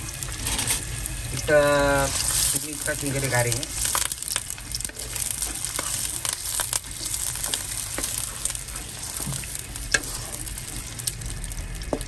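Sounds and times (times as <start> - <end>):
onions sizzling in hot oil: 0.0 - 12.0
wooden spatula stirring: 1.7 - 12.0.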